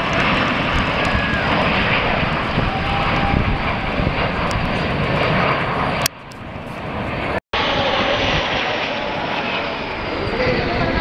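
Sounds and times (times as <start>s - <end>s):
jet aircraft roaring past: 0.0s - 11.0s.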